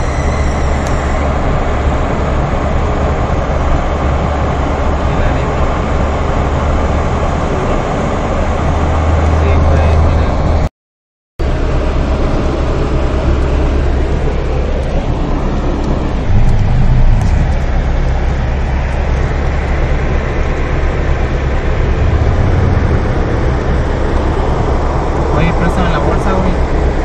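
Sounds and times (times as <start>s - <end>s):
low rumble of car and traffic: 0.0s - 10.7s, 11.4s - 27.0s.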